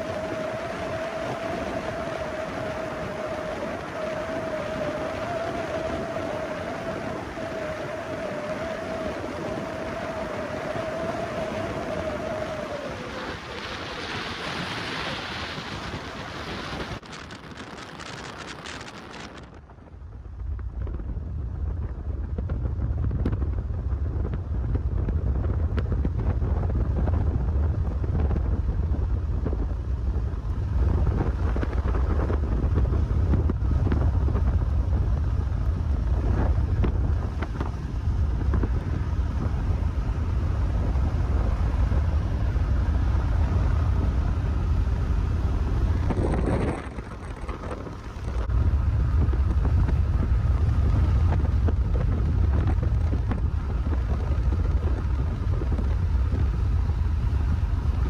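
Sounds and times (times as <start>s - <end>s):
road noise: 0.0s - 58.0s
wind buffeting microphone: 0.0s - 58.0s
wind rushing past car: 0.0s - 58.0s.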